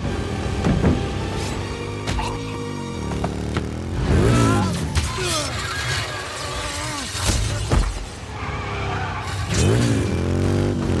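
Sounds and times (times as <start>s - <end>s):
engines revving: 0.0s - 11.0s.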